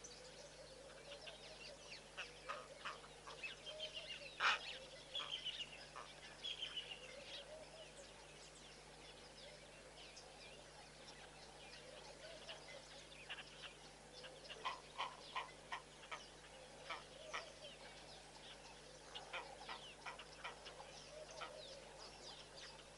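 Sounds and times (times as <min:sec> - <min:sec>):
wild birds calling: 0:00.0 - 0:22.9.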